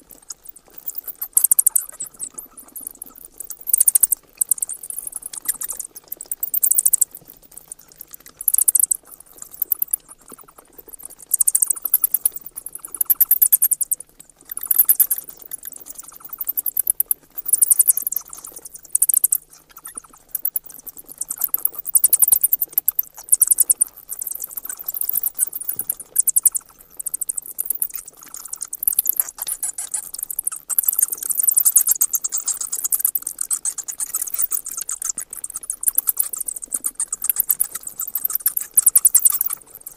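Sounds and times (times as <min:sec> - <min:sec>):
bats chattering squeaks: 0:00.2 - 0:39.9.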